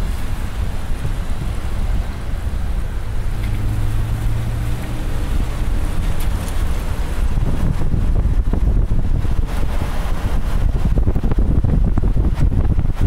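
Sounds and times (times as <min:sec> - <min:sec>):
car road noise on wet road: 0:00.0 - 0:13.0
low engine drone: 0:00.0 - 0:13.0
truck passing close: 0:00.0 - 0:13.0
wind on microphone: 0:00.0 - 0:13.0.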